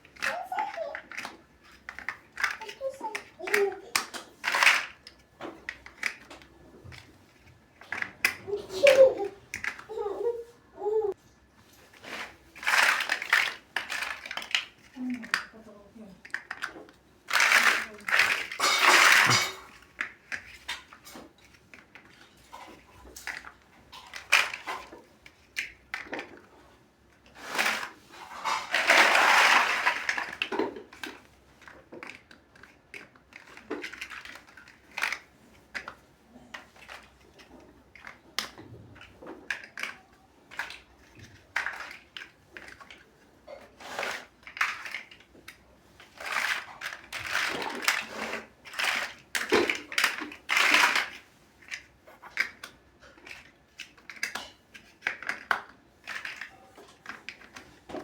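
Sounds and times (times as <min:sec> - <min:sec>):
plastic bricks clicking: 0:00.0 - 0:10.0, 0:12.5 - 0:15.6, 0:16.2 - 0:26.5, 0:28.6 - 0:43.1, 0:43.8 - 0:58.0
loose plastic pieces rattling: 0:00.0 - 0:10.1, 0:11.6 - 0:58.0.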